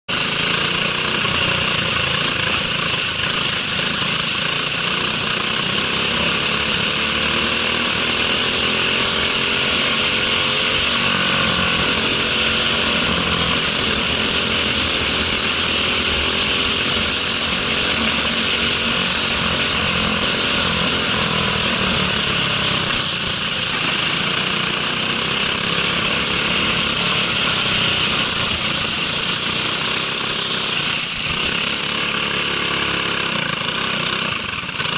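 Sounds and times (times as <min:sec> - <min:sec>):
kart engine running hard: 0:00.1 - 0:34.9.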